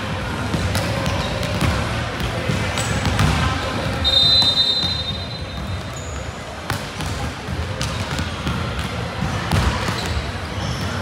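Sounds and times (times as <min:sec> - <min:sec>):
murmur of voices: 0:00.0 - 0:11.0
volleyballs struck and bouncing: 0:00.0 - 0:11.0.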